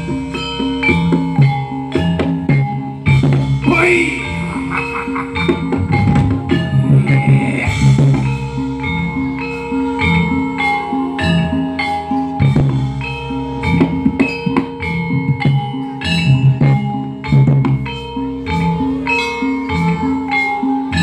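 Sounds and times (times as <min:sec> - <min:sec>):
low bass notes: 0:00.0 - 0:19.0
metallophones ringing a melody: 0:00.0 - 0:21.0.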